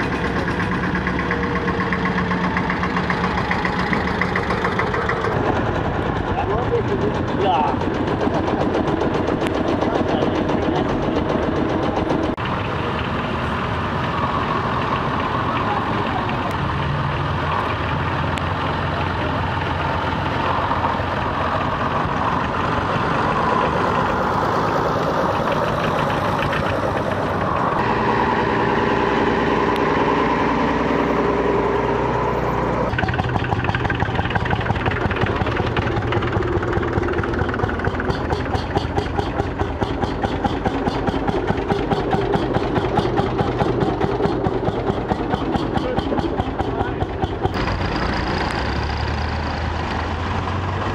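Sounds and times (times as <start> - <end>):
single-cylinder engine strokes: 0.0 - 50.9
tractor engines running: 0.0 - 50.9.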